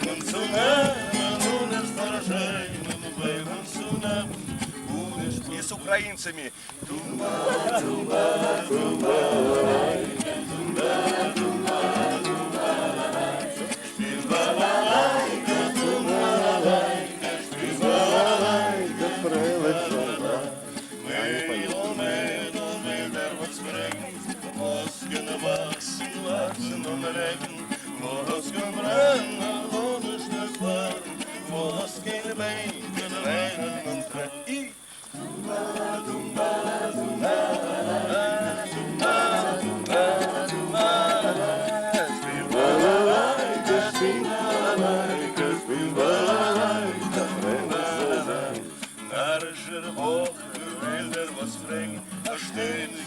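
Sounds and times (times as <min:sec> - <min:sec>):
voices singing: 0:00.0 - 0:53.0
plucked string accompaniment: 0:06.9 - 0:34.1, 0:35.5 - 0:53.0.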